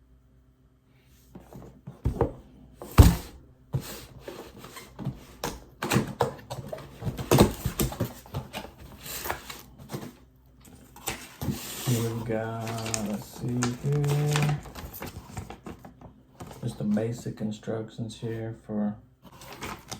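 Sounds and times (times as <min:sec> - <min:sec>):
packaging rustling and clatter: 0:01.4 - 0:17.2, 0:19.3 - 0:19.9.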